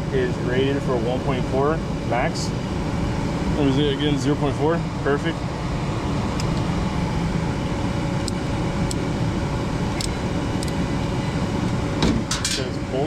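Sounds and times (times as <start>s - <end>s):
furnace blower rushing air: 0.0s - 13.0s.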